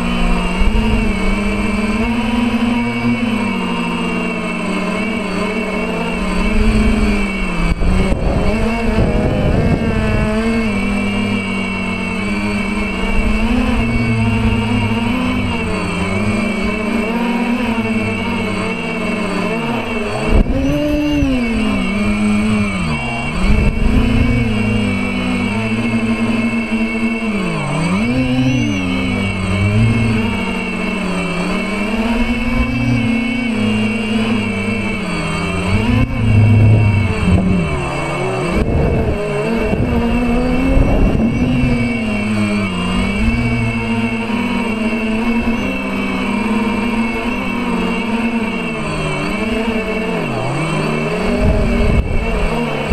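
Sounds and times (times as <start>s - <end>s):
drone motors and propellers buzzing: 0.0s - 52.9s.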